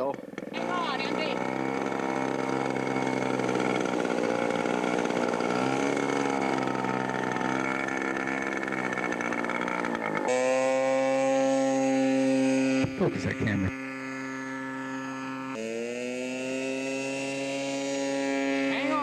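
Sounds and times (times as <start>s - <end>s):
model airplane engine: 0.0s - 19.0s.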